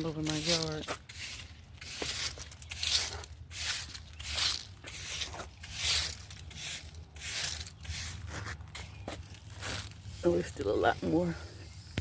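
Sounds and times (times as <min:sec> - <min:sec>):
dry foliage rustling and crinkling: 0:00.0 - 0:12.0.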